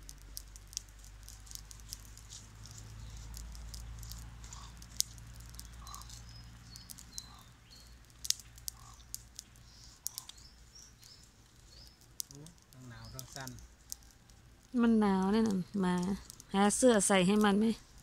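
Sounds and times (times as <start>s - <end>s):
campfire crackling and popping: 0.0s - 18.0s
small birds chirping: 0.0s - 18.0s.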